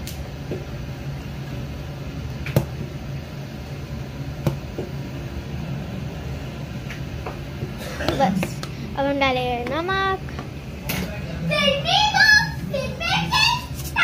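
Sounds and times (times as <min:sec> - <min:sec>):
appliance humming: 0:00.0 - 0:14.0.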